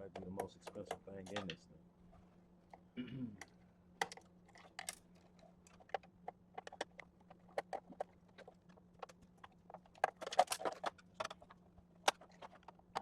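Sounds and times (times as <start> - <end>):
metal and plastic parts clicking: 0.0 - 1.6, 3.4 - 13.0.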